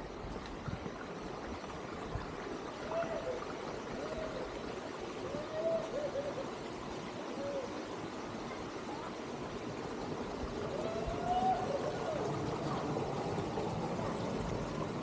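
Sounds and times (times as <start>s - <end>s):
water rushing from fountains: 0.0s - 15.0s.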